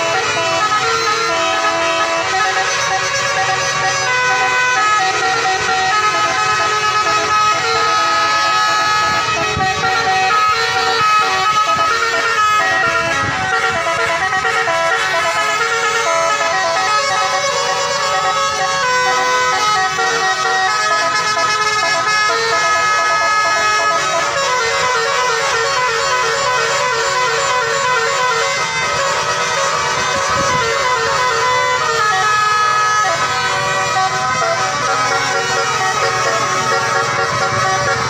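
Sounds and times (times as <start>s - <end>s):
multi-tone horn playing melody: 0.0s - 38.0s.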